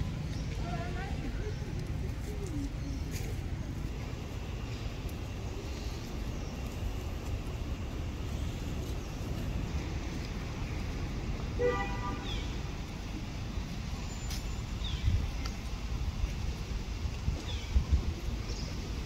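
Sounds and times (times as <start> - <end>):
steady low rumble: 0.0 - 11.6, 12.4 - 19.0.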